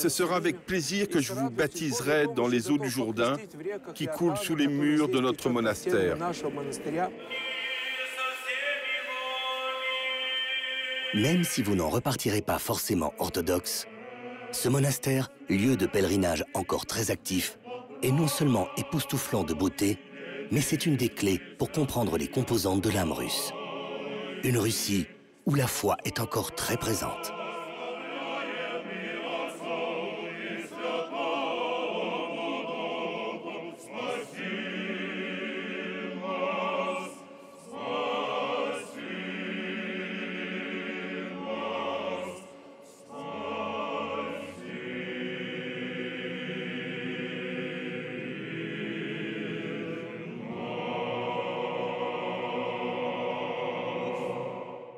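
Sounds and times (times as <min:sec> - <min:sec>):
choir singing held chords: 0:05.9 - 0:54.9.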